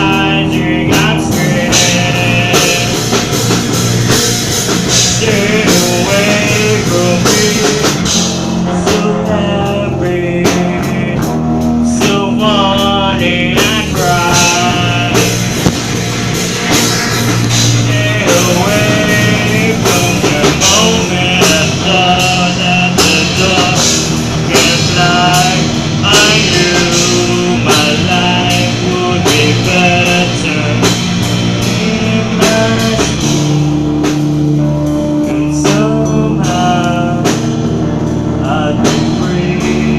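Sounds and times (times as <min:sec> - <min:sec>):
drum kit beat: 0:00.0 - 0:39.9
electric guitar: 0:00.0 - 0:39.9
rock music with singing: 0:00.0 - 0:39.9.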